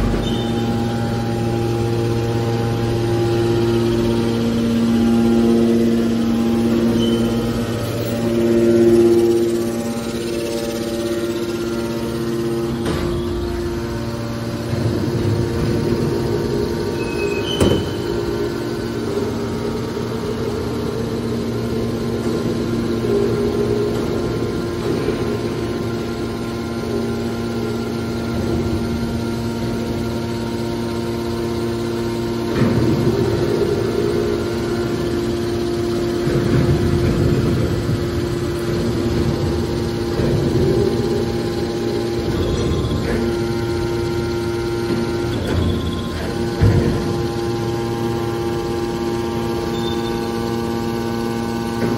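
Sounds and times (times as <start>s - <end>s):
hydraulic pump motor humming: 0.0s - 51.9s.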